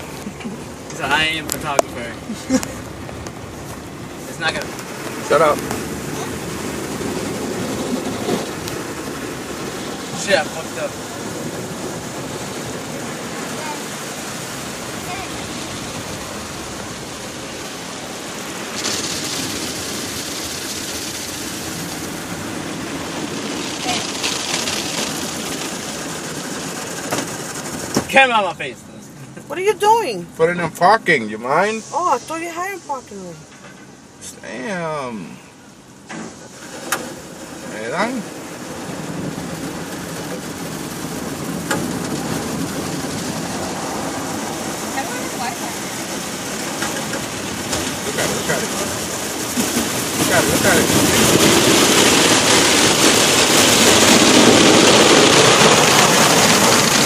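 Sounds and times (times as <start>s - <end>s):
water jets spraying on car: 0.0s - 57.0s.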